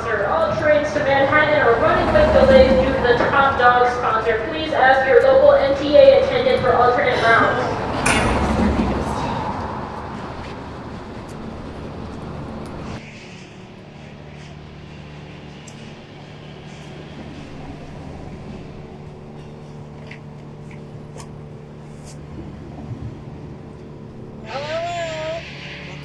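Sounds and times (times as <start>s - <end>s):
steady low hum: 0.0s - 24.5s
train rushing rumble: 0.0s - 26.0s.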